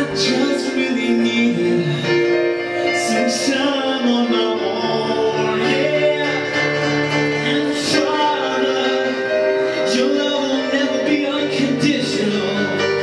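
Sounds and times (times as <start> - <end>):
instrumental accompaniment: 0.0 - 13.0
man singing slow melody: 0.0 - 13.0.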